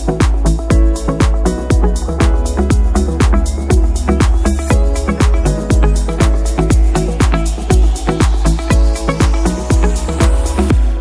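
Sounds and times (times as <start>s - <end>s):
electronic dance music: 0.0s - 11.0s
steady kick drum: 0.0s - 11.0s.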